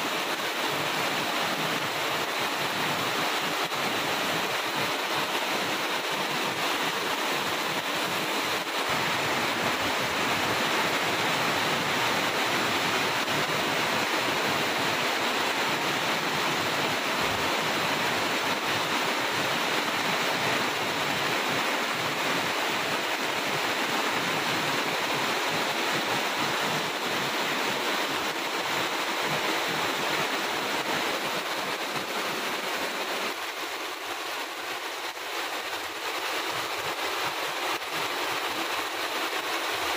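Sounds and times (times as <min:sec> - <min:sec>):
heavy rain on vegetation: 0:00.0 - 0:39.9.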